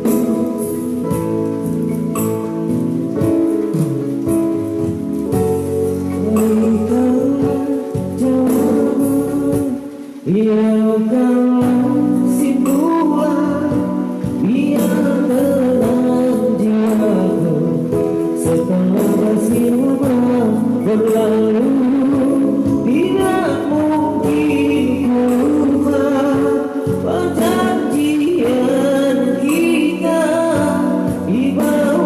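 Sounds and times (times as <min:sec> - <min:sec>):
pop song with singing: 0:00.0 - 0:32.0.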